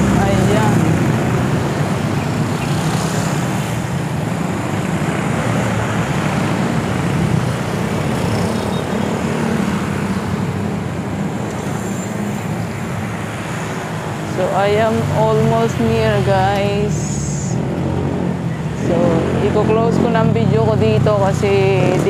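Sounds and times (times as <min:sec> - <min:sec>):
motorcycles and scooters passing: 0:00.0 - 0:22.0.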